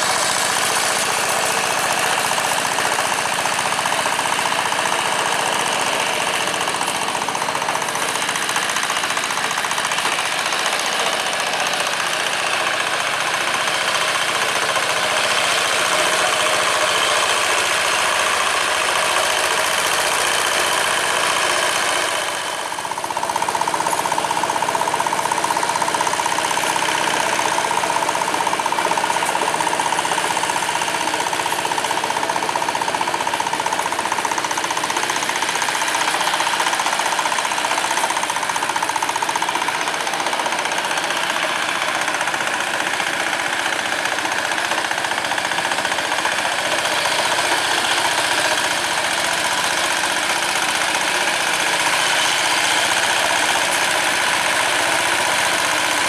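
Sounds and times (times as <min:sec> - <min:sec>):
diesel engine clattering: 0:00.0 - 0:56.0.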